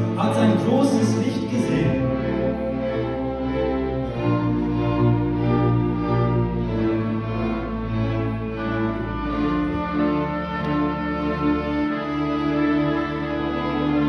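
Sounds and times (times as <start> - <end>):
string orchestra playing chords: 0.0 - 14.0.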